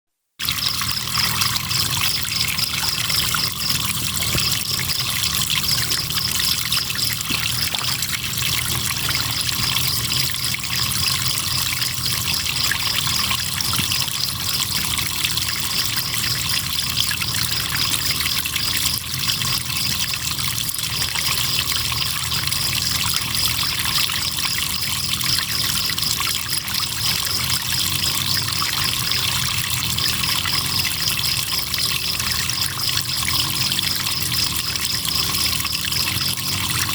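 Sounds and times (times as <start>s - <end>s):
crickets trilling: 0.4s - 36.9s.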